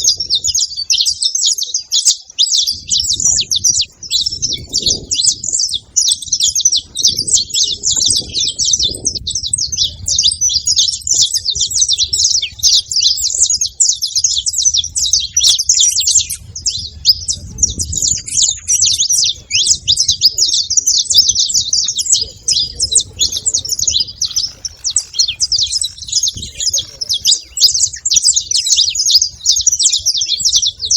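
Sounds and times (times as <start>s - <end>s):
finches chirping: 0.0s - 30.9s.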